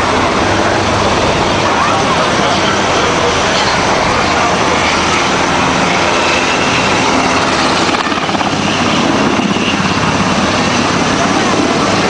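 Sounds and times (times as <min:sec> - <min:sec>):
helicopter flying low overhead: 0:00.0 - 0:12.0.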